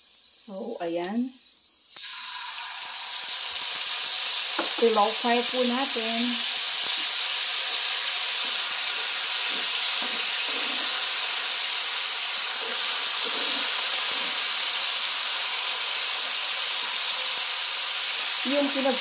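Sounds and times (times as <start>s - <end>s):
fish sizzling in hot oil: 1.4s - 19.0s.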